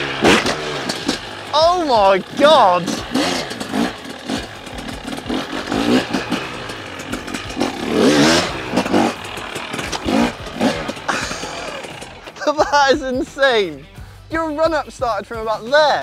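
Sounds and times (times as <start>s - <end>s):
motorcycle engine revving: 0.0s - 13.3s.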